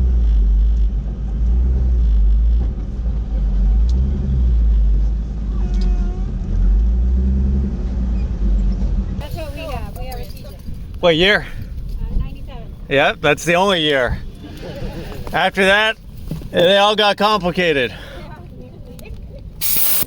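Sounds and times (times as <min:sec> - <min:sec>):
vehicle rolling with deep rumble: 0:00.0 - 0:19.6.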